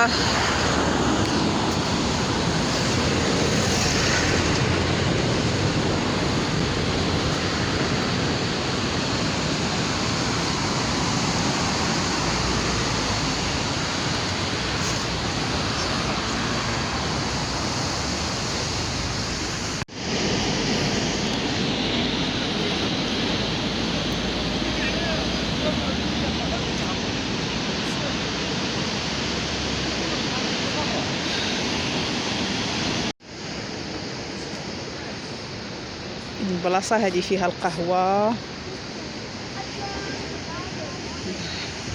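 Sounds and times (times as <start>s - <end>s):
waves breaking: 0.0s - 41.9s.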